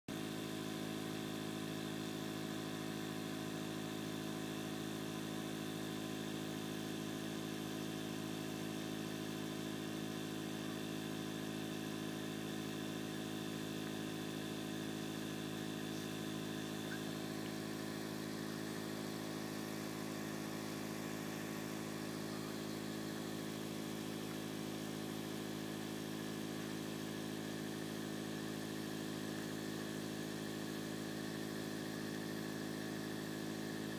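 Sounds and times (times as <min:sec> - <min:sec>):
low mechanical hum: 0:00.1 - 0:33.9.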